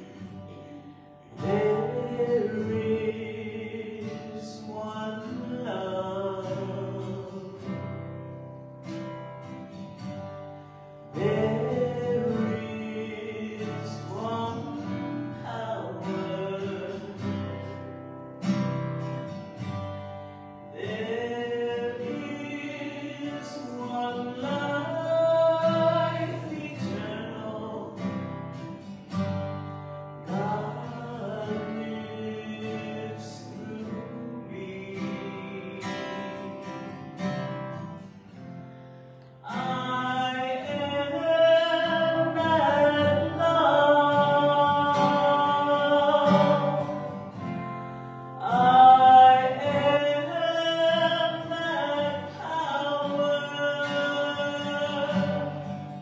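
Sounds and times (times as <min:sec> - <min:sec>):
acoustic guitar: 0:00.0 - 0:56.0.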